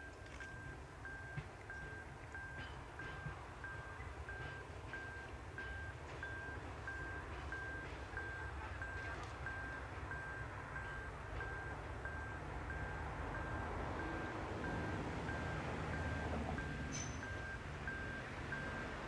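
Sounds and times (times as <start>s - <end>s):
electronic warning beeps: 0.0s - 19.0s
railcar rumbling: 0.0s - 19.0s.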